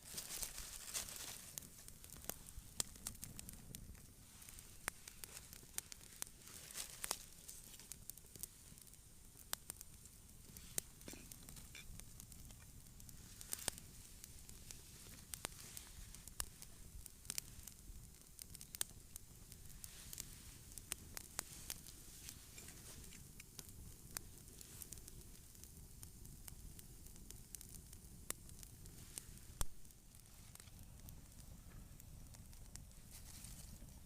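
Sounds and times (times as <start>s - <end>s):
campfire crackling and popping: 0.0s - 34.0s
low steady hiss: 0.0s - 34.0s.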